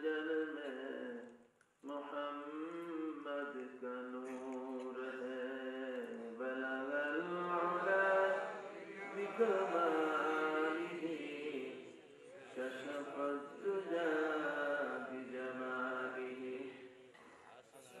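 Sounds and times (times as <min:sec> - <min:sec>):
man chanting: 0:00.0 - 0:11.9, 0:12.5 - 0:16.9.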